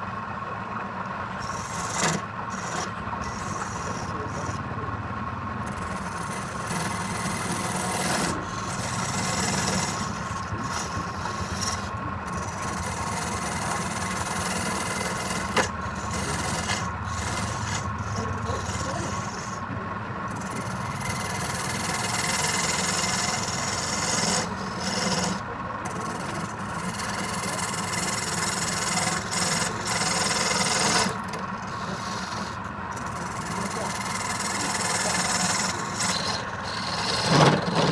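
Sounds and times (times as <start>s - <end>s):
lathe motor humming: 0.0s - 37.9s
turning tool cutting spinning wood: 0.0s - 37.9s.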